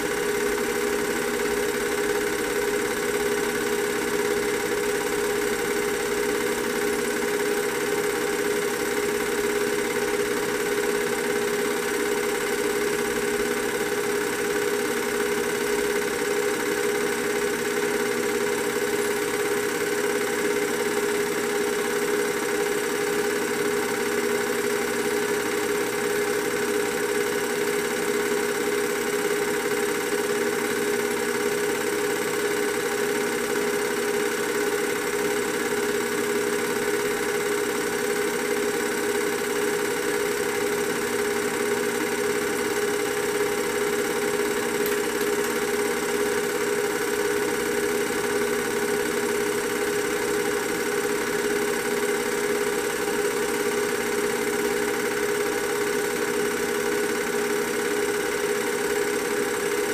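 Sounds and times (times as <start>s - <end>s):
film projector running: 0.0s - 59.9s.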